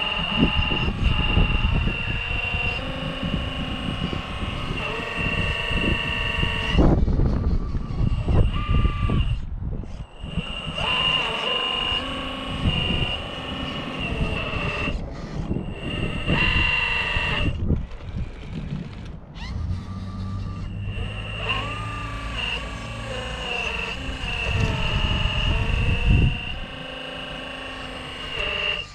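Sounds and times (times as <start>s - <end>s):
electric motor and gears whining: 0.0s - 28.9s
wind buffeting microphone: 0.0s - 28.9s.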